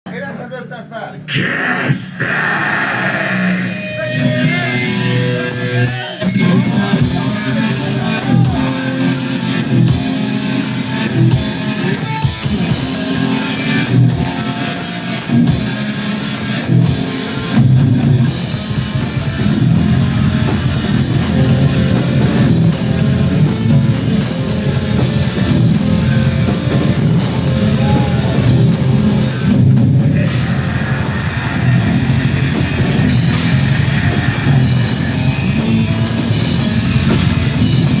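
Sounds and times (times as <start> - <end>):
distorted electric guitars: 1.2 - 38.0
drum kit: 1.3 - 38.0.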